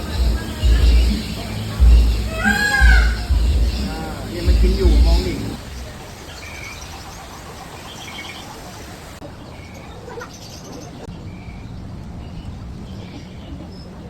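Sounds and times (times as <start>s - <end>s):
small birds chirping: 0.0s - 14.0s
steady background noise: 0.0s - 14.0s.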